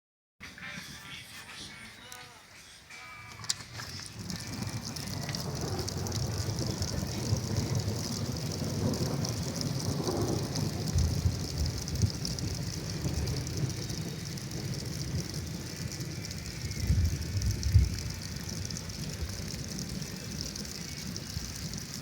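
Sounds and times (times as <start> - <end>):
heavy rain on a metal roof: 3.2 - 22.0
thunder rumbling: 3.6 - 22.0.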